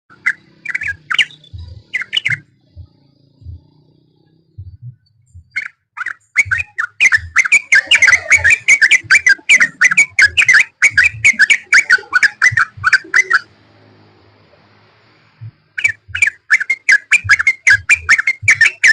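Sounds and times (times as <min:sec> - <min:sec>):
bird singing bubbly whistles: 0:00.1 - 0:03.9, 0:04.7 - 0:13.5, 0:15.4 - 0:18.9.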